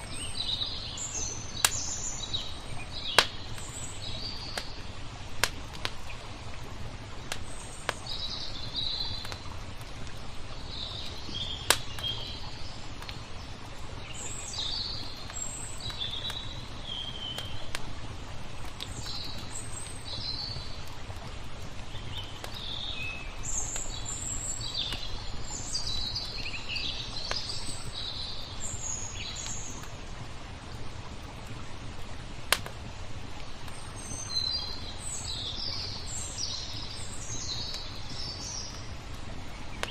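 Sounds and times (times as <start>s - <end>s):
rushing water: 0.0s - 39.9s
wood fire crackling: 0.0s - 39.9s.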